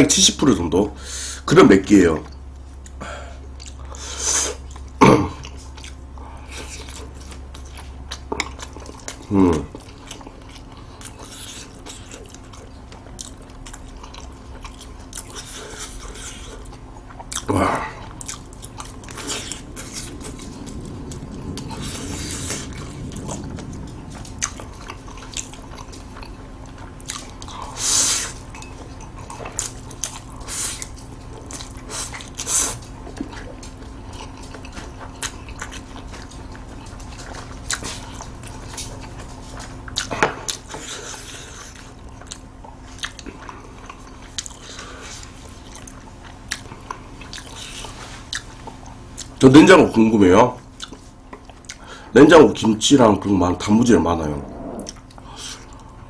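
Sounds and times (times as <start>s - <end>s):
chewing noodles: 2.6s - 49.8s, 50.6s - 53.9s, 54.5s - 56.0s.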